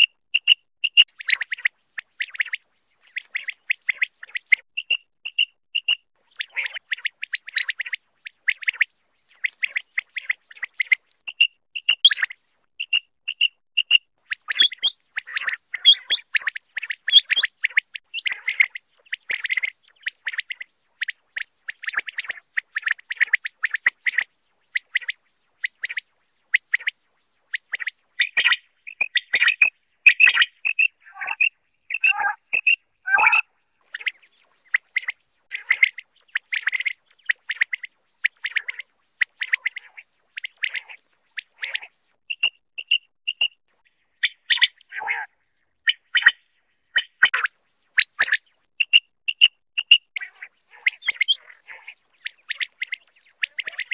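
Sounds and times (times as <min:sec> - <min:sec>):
quail chirping calls: 0:00.0 - 0:53.9.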